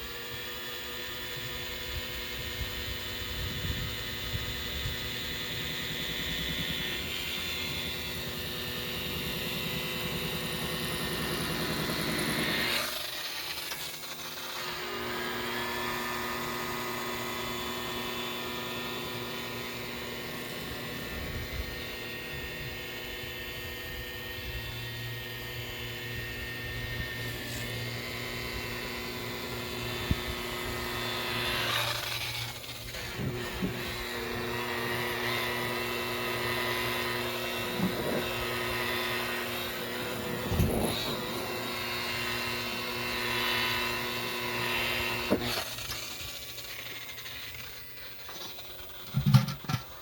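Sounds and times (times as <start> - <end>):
electric buffer whining: 0.0 - 50.0.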